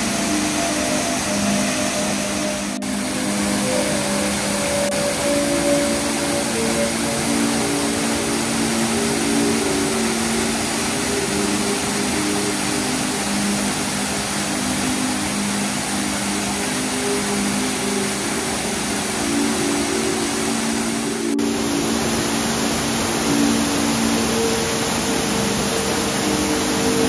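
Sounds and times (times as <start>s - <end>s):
slow low background music: 0.0s - 27.0s
waterfall roaring: 0.0s - 27.0s.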